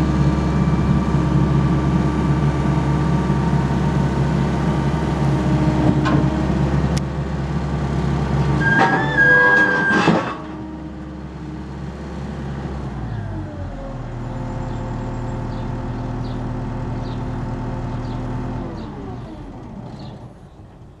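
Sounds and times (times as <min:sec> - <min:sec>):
diesel excavator engine running: 0:00.0 - 0:21.0.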